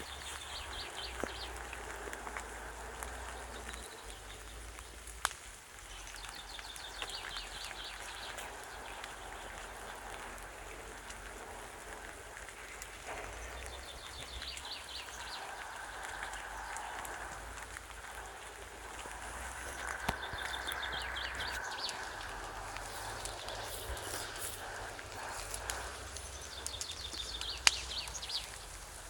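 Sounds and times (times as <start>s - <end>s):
bonfire crackling and popping: 0.0s - 29.0s.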